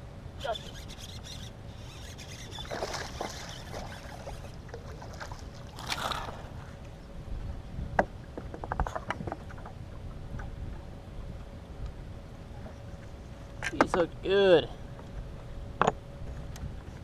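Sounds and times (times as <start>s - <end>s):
faint steady hum: 0.0s - 17.0s
low wind and water noise: 0.0s - 17.0s.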